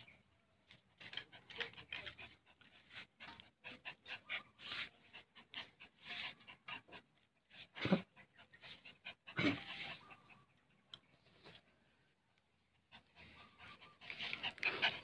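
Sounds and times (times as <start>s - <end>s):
small dog panting and snuffling: 1.0s - 11.9s, 12.7s - 15.0s.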